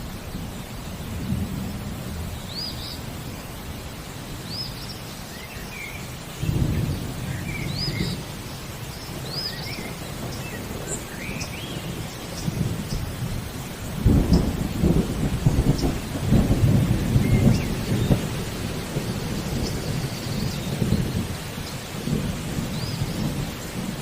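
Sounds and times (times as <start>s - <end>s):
low roll of thunder: 0.0s - 3.2s, 6.4s - 24.0s
steady rain: 0.0s - 24.0s
birds chirping: 0.2s - 23.9s.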